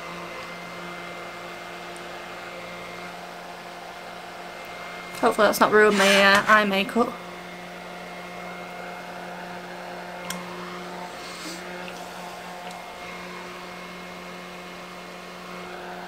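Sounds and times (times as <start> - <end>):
handheld fan humming: 0.0 - 16.0.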